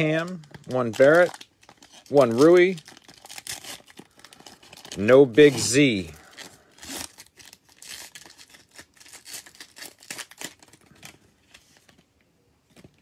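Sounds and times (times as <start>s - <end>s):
cellophane wrapper crinkling and tearing: 0.0s - 12.1s.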